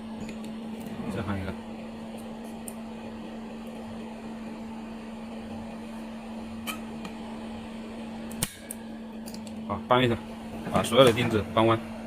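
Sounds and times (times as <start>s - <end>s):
welding machine electrical hum: 0.0s - 12.0s.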